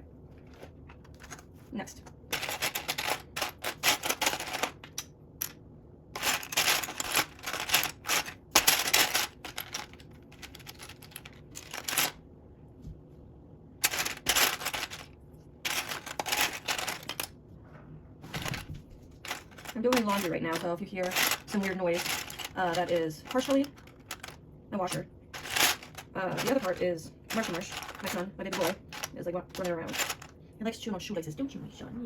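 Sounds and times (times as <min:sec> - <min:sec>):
plastic bricks clattering: 0:00.4 - 0:01.4, 0:02.3 - 0:05.5, 0:06.2 - 0:12.2, 0:13.8 - 0:17.3, 0:18.3 - 0:30.3.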